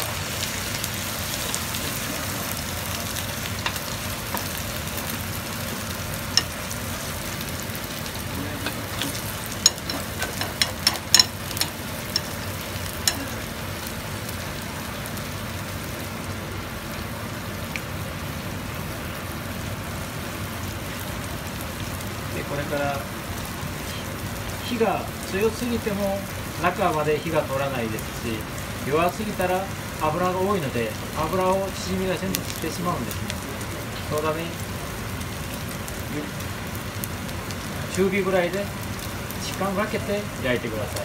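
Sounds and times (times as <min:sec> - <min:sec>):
batter sizzling in hot oil: 0:00.0 - 0:41.0.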